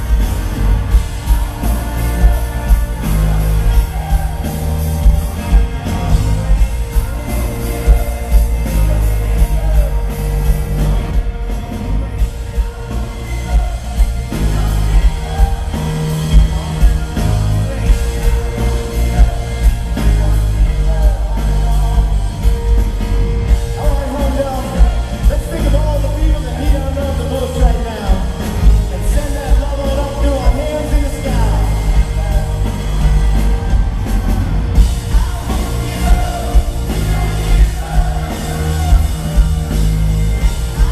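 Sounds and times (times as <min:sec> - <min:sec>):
live pop-rock band playing: 0:00.0 - 0:40.9
man singing lead vocal: 0:00.0 - 0:40.9.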